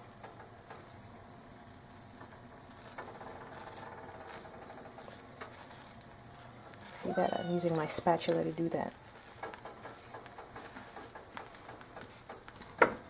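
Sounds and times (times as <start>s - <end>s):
pancake sizzling in frying pan: 0.0s - 13.0s.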